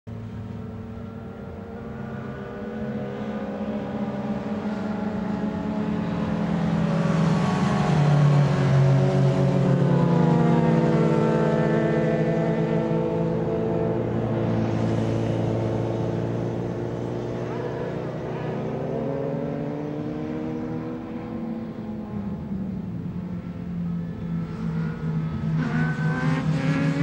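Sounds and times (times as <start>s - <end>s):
racing motorcycles revving: 0.3s - 27.0s.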